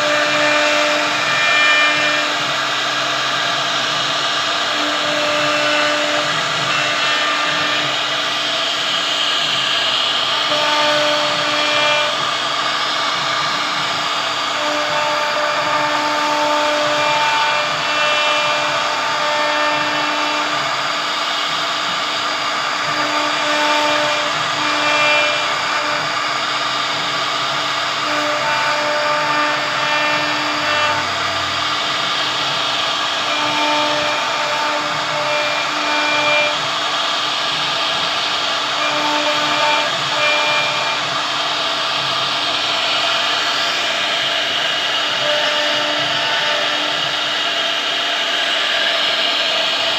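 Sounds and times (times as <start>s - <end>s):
wood router cutting wood: 0.0s - 49.9s.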